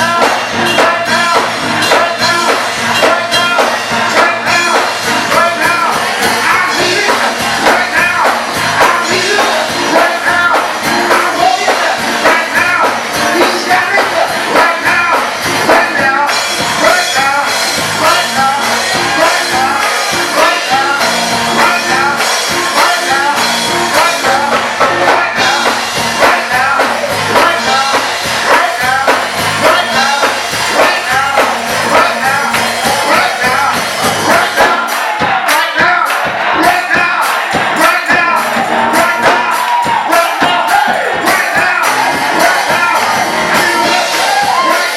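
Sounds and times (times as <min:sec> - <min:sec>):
band accompaniment: 0:00.0 - 0:44.9
gospel choir singing: 0:00.0 - 0:44.9.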